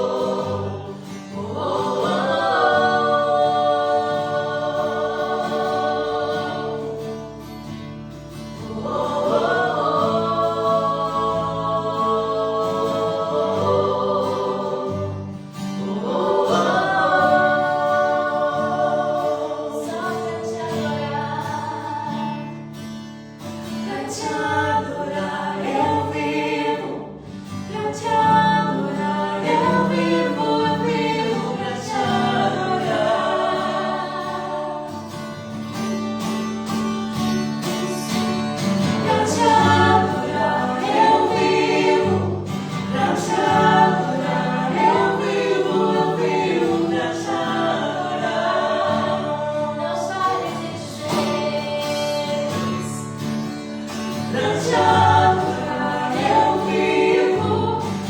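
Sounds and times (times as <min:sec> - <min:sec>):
people singing worship song: 0:00.0 - 0:58.0.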